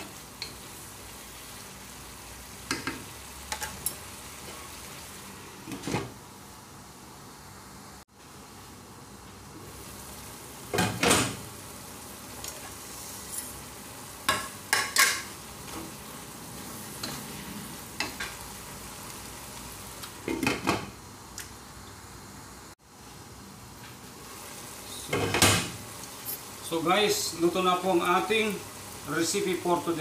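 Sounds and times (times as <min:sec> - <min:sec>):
food sizzling in a pot: 0:00.0 - 0:30.0.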